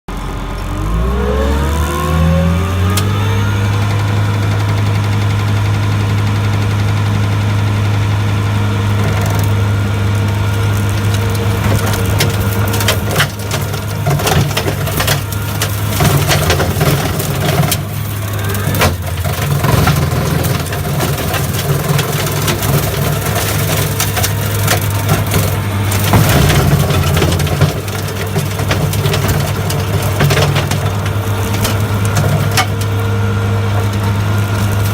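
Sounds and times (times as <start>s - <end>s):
brush cutter whine: 0.1s - 34.9s
diesel engine running hard: 0.1s - 34.9s.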